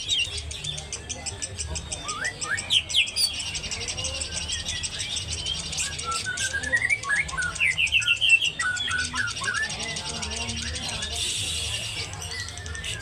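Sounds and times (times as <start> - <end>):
songbird chirping and whistling: 0.0 - 13.0.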